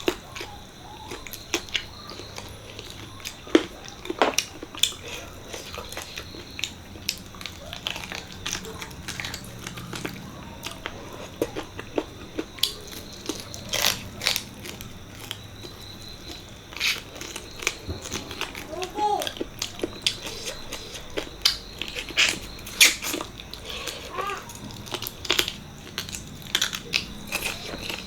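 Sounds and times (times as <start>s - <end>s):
chewing and mouth smacks: 0.0s - 28.0s.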